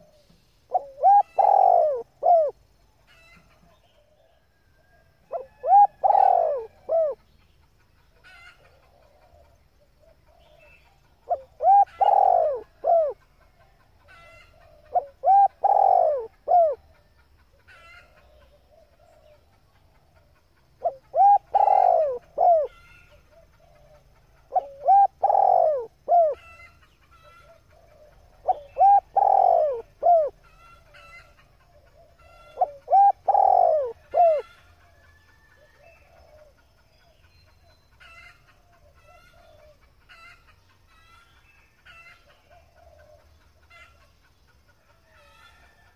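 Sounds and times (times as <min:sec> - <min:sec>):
dove cooing: 0:00.0 - 0:02.6, 0:03.2 - 0:07.2, 0:08.3 - 0:17.1, 0:17.7 - 0:35.0, 0:35.6 - 0:36.6, 0:38.1 - 0:40.4, 0:41.9 - 0:44.0
small birds chirping: 0:00.0 - 0:45.4.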